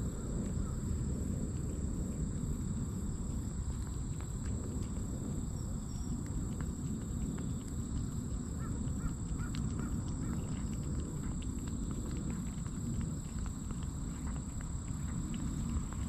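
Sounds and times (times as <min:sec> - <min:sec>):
steady low rumble: 0:00.0 - 0:16.0
cat chewing and licking: 0:00.1 - 0:16.0.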